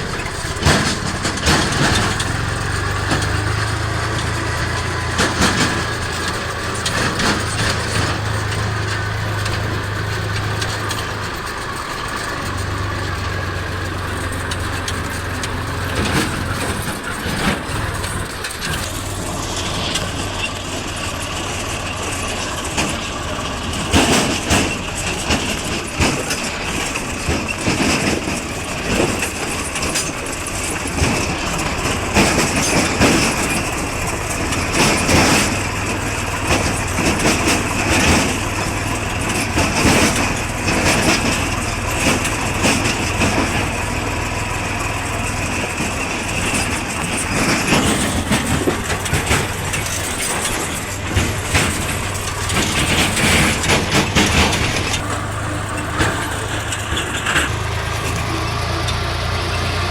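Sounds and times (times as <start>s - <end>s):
clanks and rattles: 0.0s - 59.9s
tractor diesel engine running: 0.0s - 59.9s.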